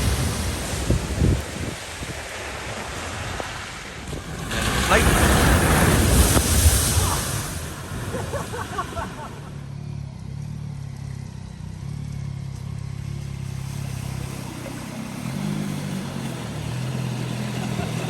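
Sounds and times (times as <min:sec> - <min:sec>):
rush of water: 0:00.0 - 0:09.6, 0:13.0 - 0:18.0
vehicle engine humming: 0:00.0 - 0:18.0.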